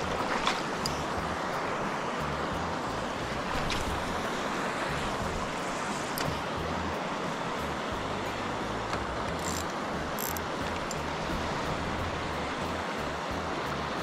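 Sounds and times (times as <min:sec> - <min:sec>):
river water rushing: 0:00.0 - 0:14.0
wind rumbling on microphone: 0:00.0 - 0:14.0.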